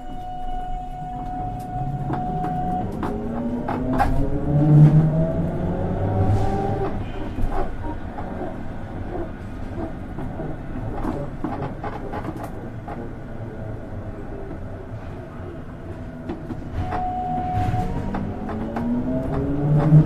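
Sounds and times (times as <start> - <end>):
bus running noise: 0.0 - 20.0.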